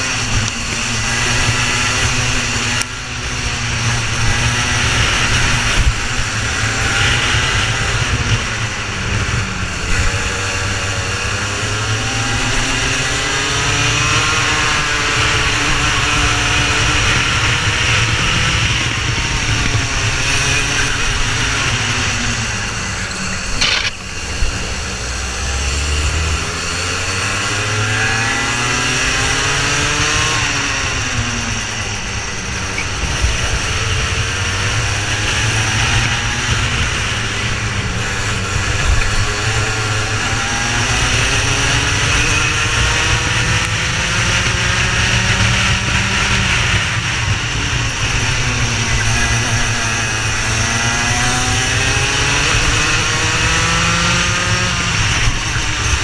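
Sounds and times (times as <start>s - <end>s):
racing kart engines revving: 0.0s - 56.0s.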